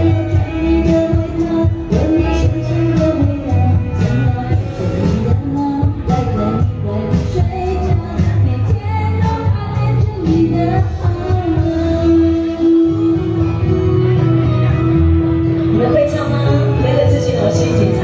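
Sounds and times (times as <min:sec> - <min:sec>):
woman singing: 0:00.0 - 0:14.2, 0:15.7 - 0:18.0
live band playing pop song: 0:00.0 - 0:18.0.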